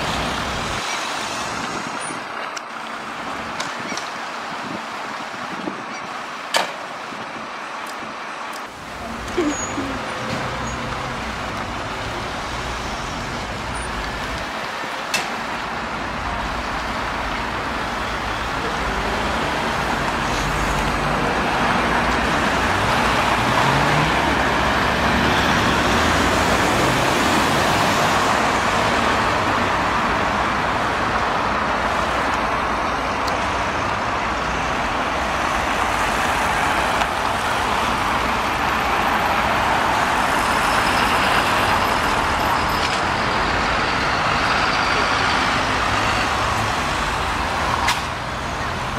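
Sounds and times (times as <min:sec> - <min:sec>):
cars driving past: 0:08.7 - 0:48.9.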